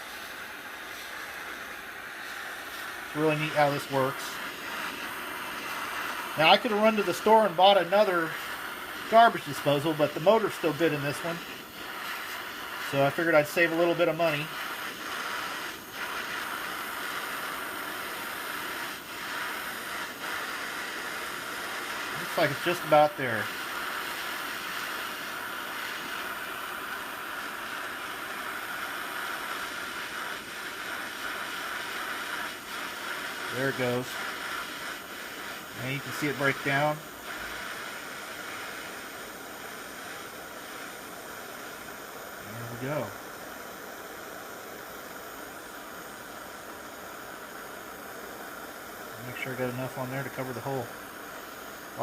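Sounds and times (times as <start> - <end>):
gas torch flame hissing: 0.0 - 52.0.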